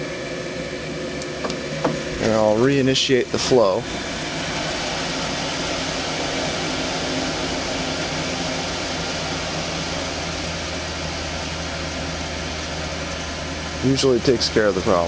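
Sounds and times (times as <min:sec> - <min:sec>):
water heater burner hissing: 0:00.0 - 0:15.0.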